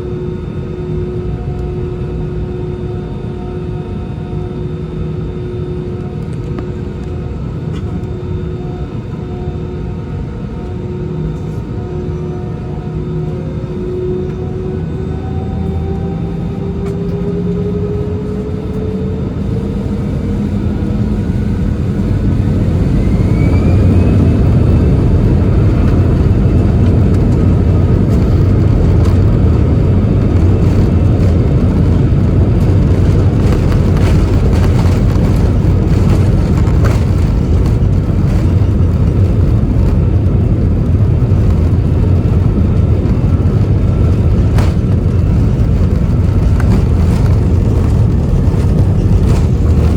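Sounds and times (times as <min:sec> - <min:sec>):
jet engines spooling up: 0:00.1 - 0:49.9.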